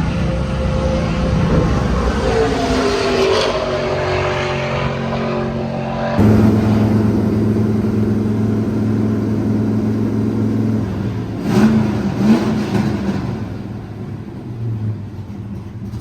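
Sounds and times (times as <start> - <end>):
engine revving: 0.0 - 15.1
race car engine droning: 0.0 - 16.0.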